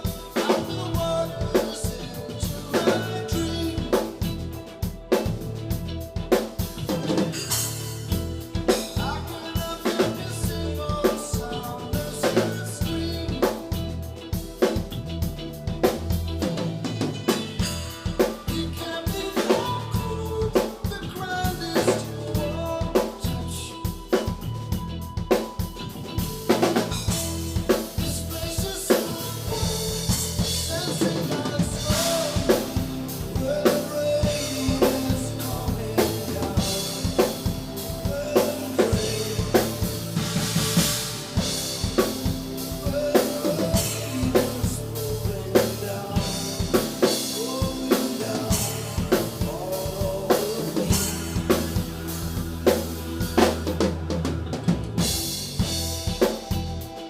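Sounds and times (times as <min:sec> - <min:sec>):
drum kit rock beat: 0:00.0 - 0:57.0
pop-rock song: 0:00.0 - 0:57.0.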